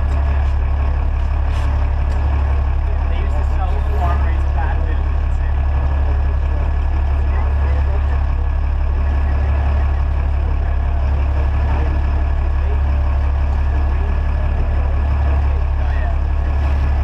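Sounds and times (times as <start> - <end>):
boat engine droning: 0.0 - 17.0
wind: 0.0 - 17.0.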